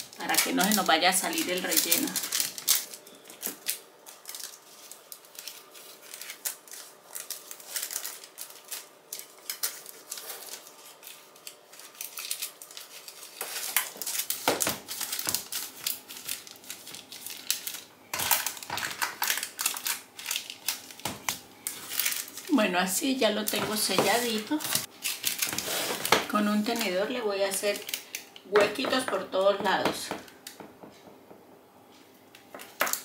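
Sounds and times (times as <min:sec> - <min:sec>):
baking paper rustling: 0:00.0 - 0:30.1.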